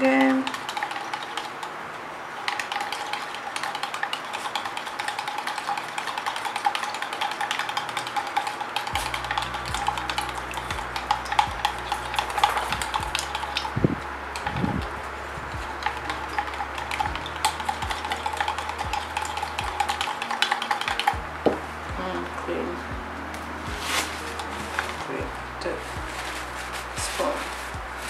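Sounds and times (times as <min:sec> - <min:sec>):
stick stirring in plastic pot: 0:00.0 - 0:01.7, 0:02.4 - 0:28.0.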